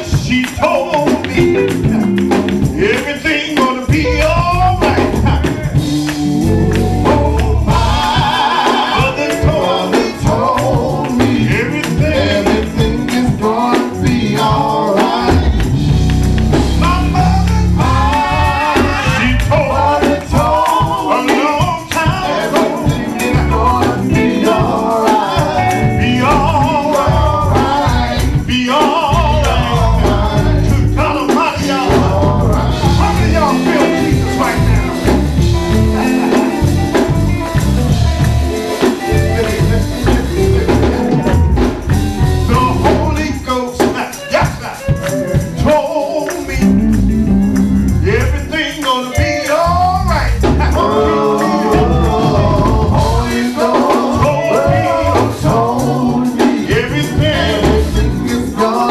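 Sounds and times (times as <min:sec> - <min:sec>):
man singing into a microphone: 0:00.0 - 0:02.0, 0:02.7 - 0:15.7, 0:16.8 - 0:36.9, 0:42.5 - 0:46.8, 0:48.0 - 0:58.9
band with electric guitars and bass: 0:00.0 - 0:58.9.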